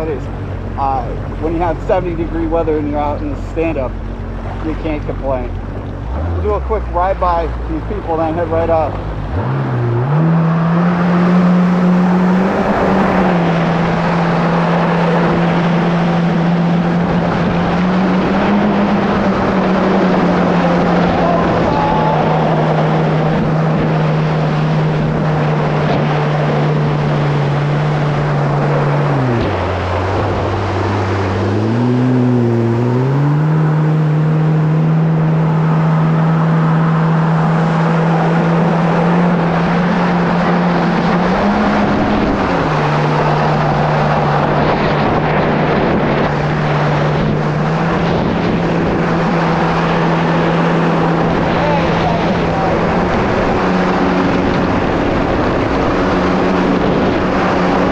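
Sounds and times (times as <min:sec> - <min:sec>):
jet ski engine: 0:00.0 - 0:57.9
wind and water noise: 0:00.0 - 0:57.9.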